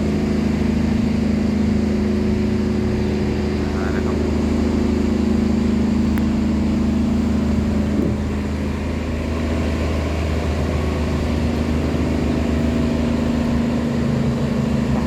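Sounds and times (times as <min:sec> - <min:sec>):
tugboat engine droning: 0:00.0 - 0:15.0.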